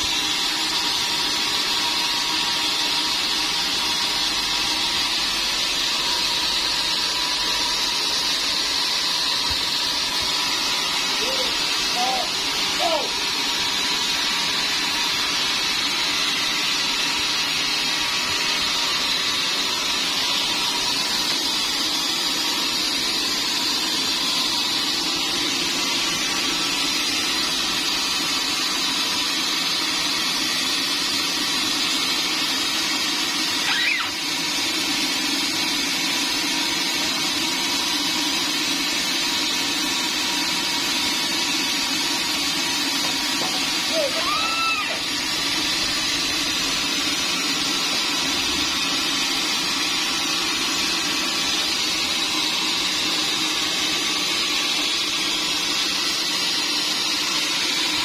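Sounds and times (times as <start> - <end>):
band saw idling whine: 0.0 - 58.0.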